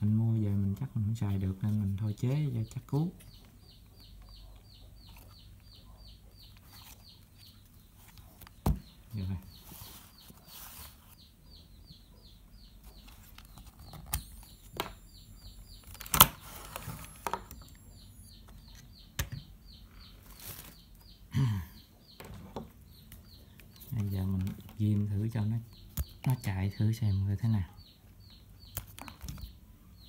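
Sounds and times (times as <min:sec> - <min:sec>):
bird chirping: 0:00.0 - 0:30.0.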